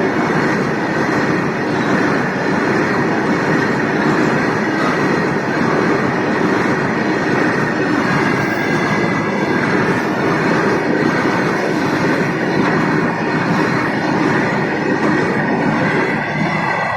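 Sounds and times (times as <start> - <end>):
goods train running past: 0.0 - 16.9.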